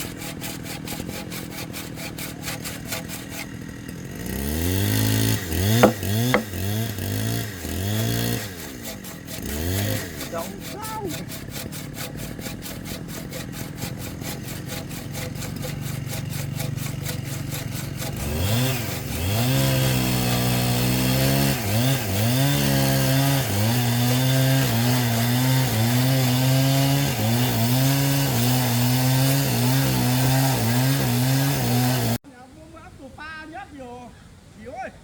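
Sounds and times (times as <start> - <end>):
chainsaw engine idling and revving: 0.0 - 32.2.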